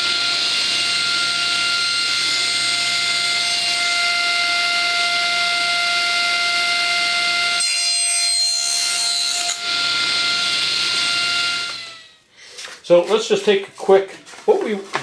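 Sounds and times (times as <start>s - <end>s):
saw cutting wood: 0.0s - 12.2s
power saw motor whining: 0.0s - 12.3s.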